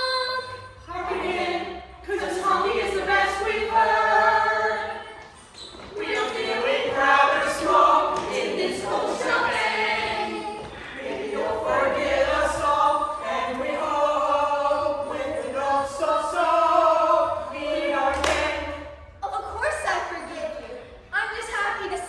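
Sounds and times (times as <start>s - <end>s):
group of voices singing: 0.0s - 19.2s.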